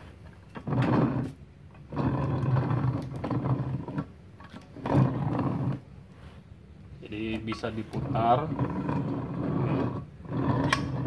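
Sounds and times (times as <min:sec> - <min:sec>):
metal vise scraping on swivel base: 0:00.3 - 0:05.8, 0:07.2 - 0:11.0.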